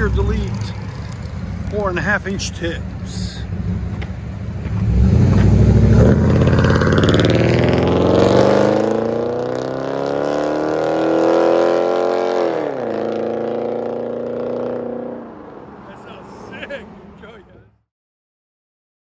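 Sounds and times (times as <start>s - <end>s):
car engine accelerating: 0.0s - 16.7s.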